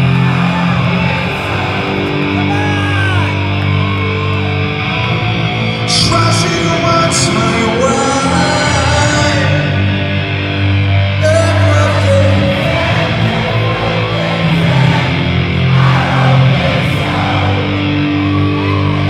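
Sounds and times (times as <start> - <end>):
bass: 0.0 - 19.0
distorted electric guitar: 0.0 - 19.0
drums: 0.0 - 19.0.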